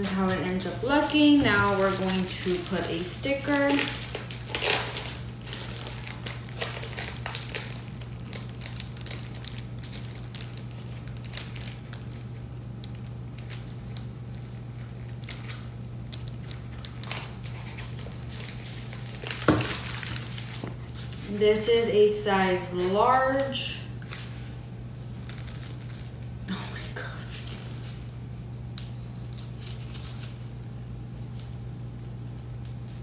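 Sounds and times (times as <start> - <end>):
plastic bag crinkling: 0.0 - 21.4, 22.8 - 28.1, 28.8 - 30.5
steady low hum: 0.0 - 33.0.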